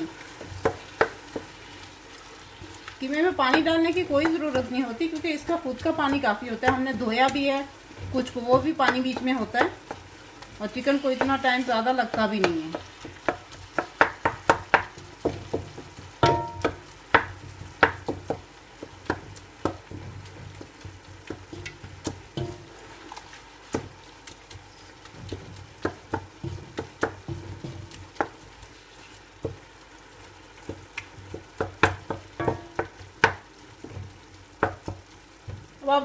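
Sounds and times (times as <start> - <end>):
mince sizzling: 0.0 - 36.0.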